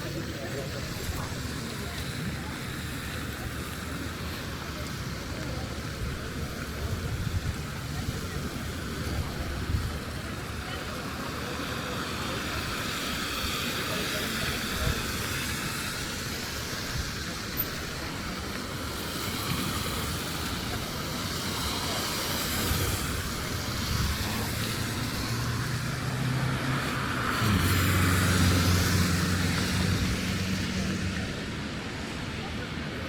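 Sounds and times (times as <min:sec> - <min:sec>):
low vehicle engine hum: 0:00.0 - 0:33.0
road traffic rushing past: 0:00.0 - 0:33.0.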